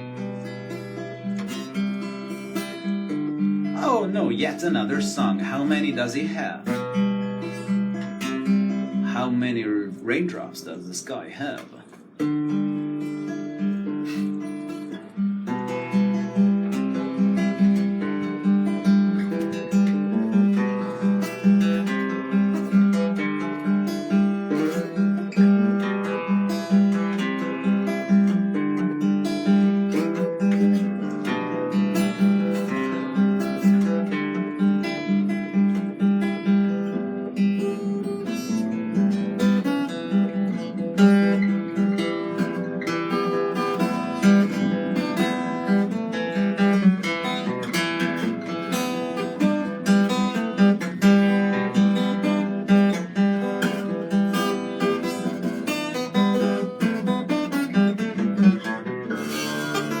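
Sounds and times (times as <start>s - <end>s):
acoustic guitar playing: 0.0s - 60.0s.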